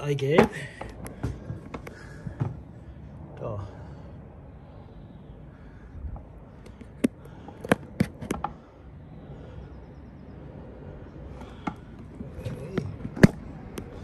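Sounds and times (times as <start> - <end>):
street ambience: 0.0 - 14.0.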